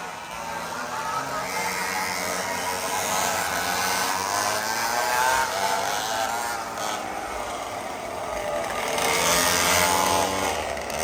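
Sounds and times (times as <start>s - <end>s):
two-stroke mini bike engines whining: 0.0s - 11.0s.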